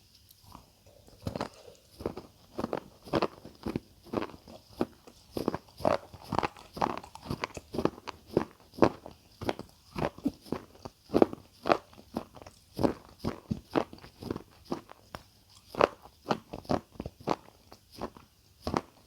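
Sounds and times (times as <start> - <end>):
crunchy food chewing: 0.1 - 19.0.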